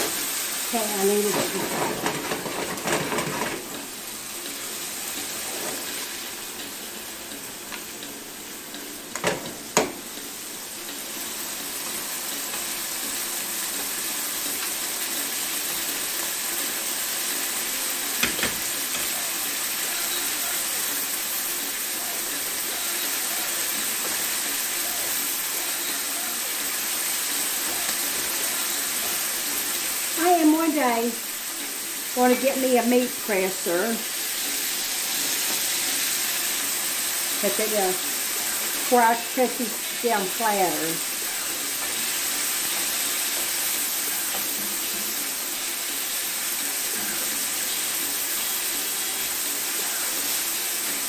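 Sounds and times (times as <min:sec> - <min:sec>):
meat sizzling in a skillet: 0:00.0 - 0:51.0.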